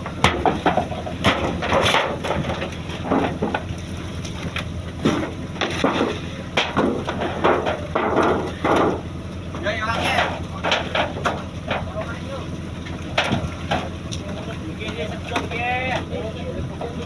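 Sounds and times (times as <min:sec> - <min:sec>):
boat engine running: 0:00.0 - 0:17.0
knocks and crunching clatter: 0:00.0 - 0:17.0.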